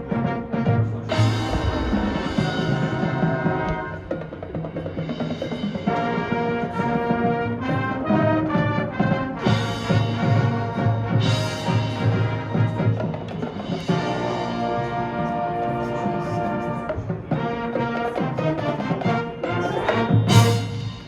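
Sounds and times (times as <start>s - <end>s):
marching band brass chords: 0.0s - 21.0s
timpani and drums pounding: 0.0s - 21.0s.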